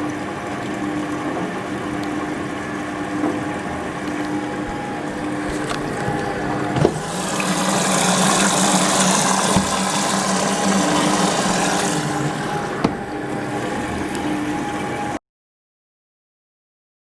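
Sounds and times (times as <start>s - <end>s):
washing machine humming: 0.0s - 15.2s.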